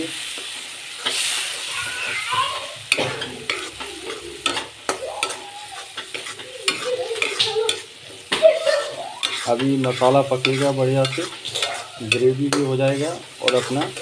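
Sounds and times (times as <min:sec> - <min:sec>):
masala sizzling in oil: 0:00.0 - 0:14.0
spatula scraping metal pan: 0:01.0 - 0:14.0.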